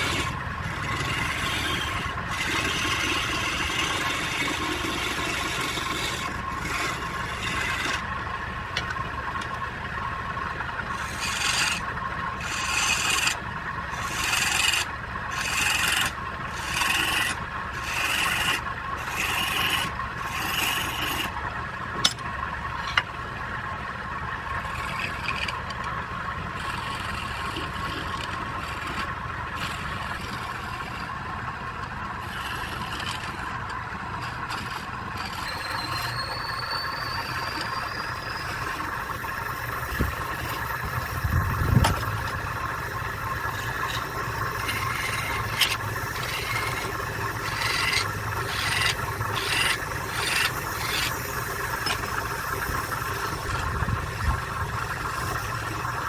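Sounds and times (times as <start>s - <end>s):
wood lathe humming: 0.0s - 56.0s
wood scraping on lathe: 0.0s - 56.0s.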